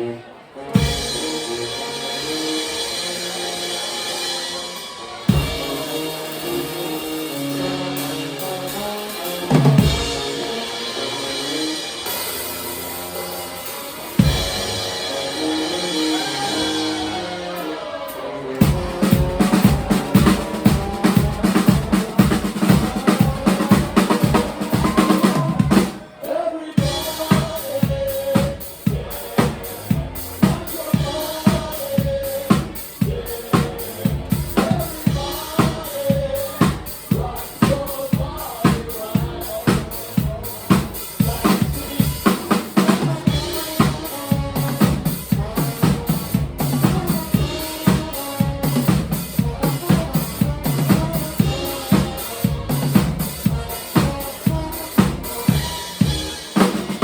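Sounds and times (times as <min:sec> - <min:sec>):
live band music: 0:00.0 - 0:57.0
drum kit beat: 0:00.8 - 0:57.0.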